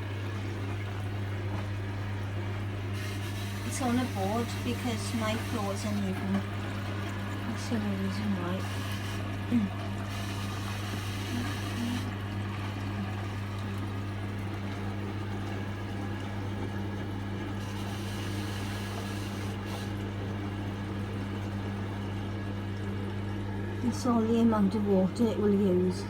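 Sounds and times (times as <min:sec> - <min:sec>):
washing machine motor hum: 0:00.0 - 0:26.0
water swishing in drum: 0:00.0 - 0:26.0.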